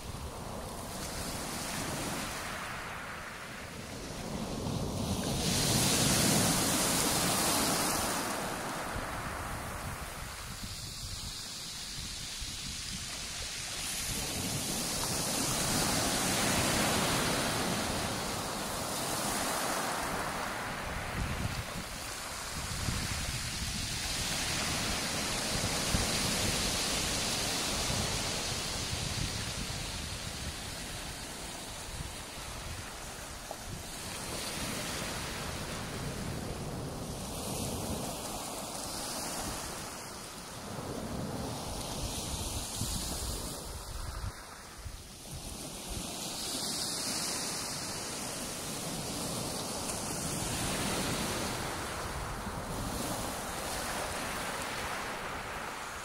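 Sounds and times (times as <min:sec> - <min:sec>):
waves washing over shingle: 0:00.0 - 0:56.0
wind on microphone: 0:00.0 - 0:56.0.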